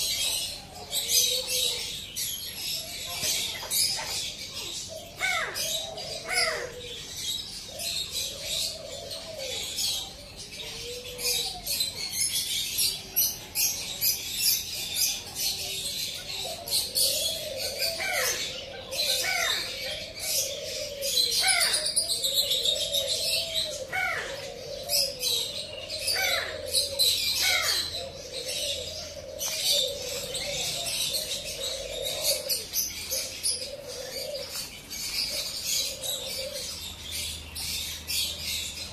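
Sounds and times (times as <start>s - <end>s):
birds cooing: 0.0s - 38.9s
small birds chirping: 0.0s - 38.9s.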